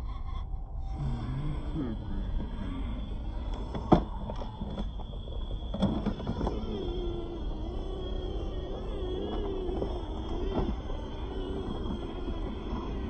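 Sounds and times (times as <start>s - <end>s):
low rumble: 0.0s - 13.0s
rc car motor and gears whining: 1.0s - 13.0s.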